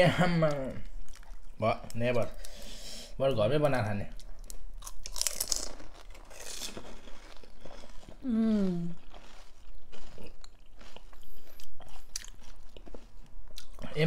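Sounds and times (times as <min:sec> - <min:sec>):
chewing and crunching: 0:00.5 - 0:02.4, 0:04.1 - 0:14.0.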